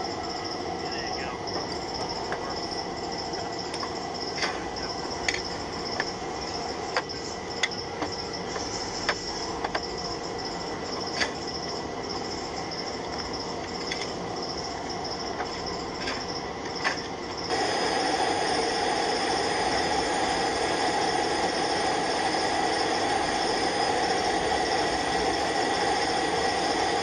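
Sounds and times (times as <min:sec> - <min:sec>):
background machinery noise: 0:00.0 - 0:27.0
faint high whine: 0:00.0 - 0:27.0.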